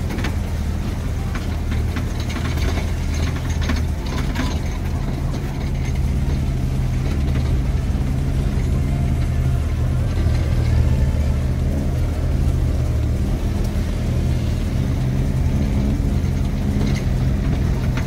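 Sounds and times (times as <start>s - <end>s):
off-road vehicle engine at low revs: 0.0s - 18.0s.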